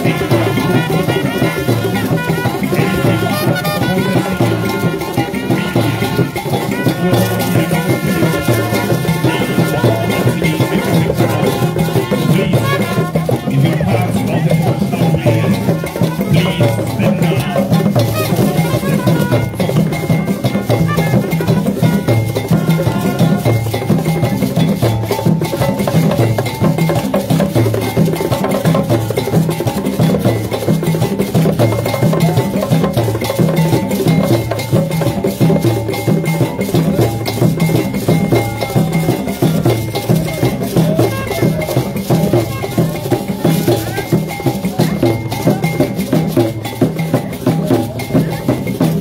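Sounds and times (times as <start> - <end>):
gourd shakers rattling: 0.0 - 49.0
hand drums beating: 0.0 - 49.0.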